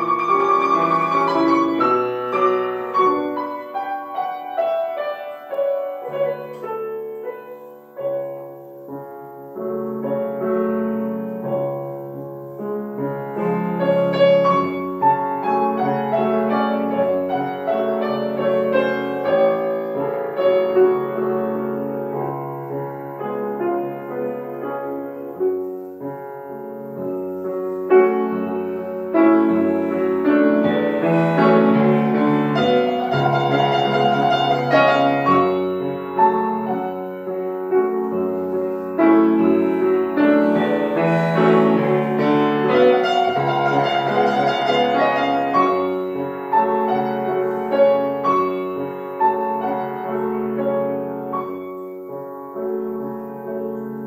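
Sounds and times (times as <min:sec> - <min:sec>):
slow classical piano piece: 0:00.0 - 0:54.0.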